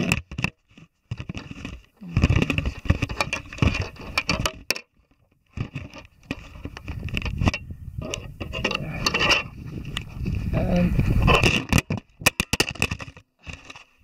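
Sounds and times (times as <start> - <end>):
camera handling knocks and scrapes: 0.0 - 10.4, 11.2 - 14.0.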